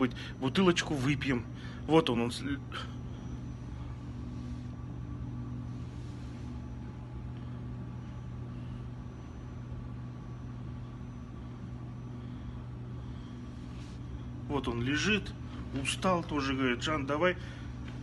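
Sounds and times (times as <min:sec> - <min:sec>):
faint steady tones: 0:00.0 - 0:18.0
low mechanical hum: 0:00.0 - 0:18.0.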